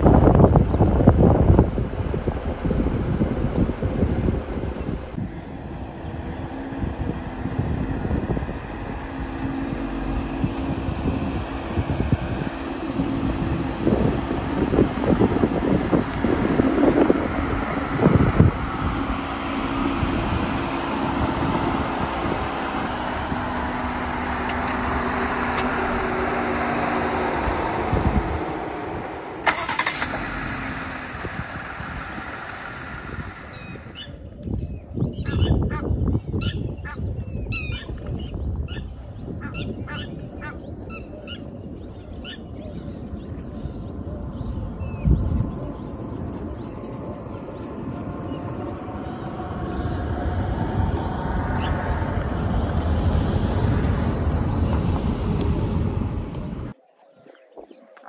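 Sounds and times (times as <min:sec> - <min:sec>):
vehicle engine and road noise: 0:00.0 - 0:56.8.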